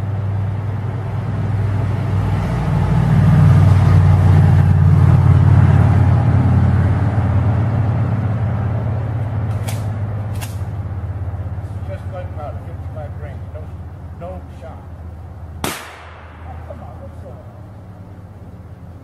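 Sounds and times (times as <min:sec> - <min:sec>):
truck engine passing: 0:00.0 - 0:19.0.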